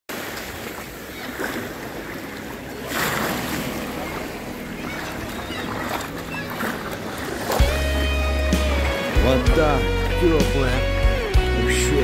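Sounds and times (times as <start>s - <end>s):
seawater splashing over rocks: 0.1s - 12.0s.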